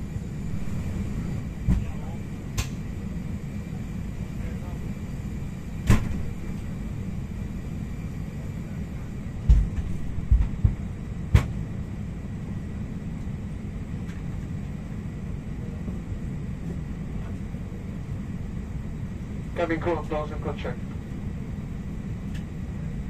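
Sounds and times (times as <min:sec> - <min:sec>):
aircraft cabin low rumble: 0:00.0 - 0:23.0.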